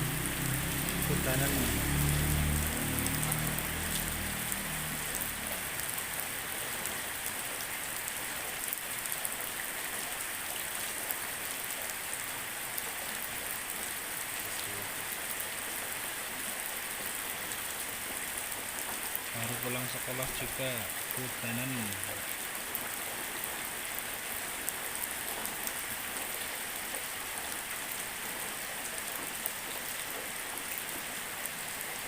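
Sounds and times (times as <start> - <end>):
drizzling rain: 0.0 - 32.0.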